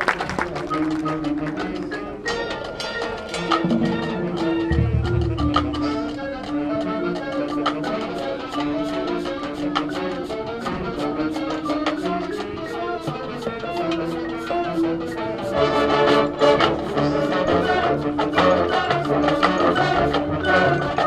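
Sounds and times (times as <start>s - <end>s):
marching band playing: 0.0s - 21.0s.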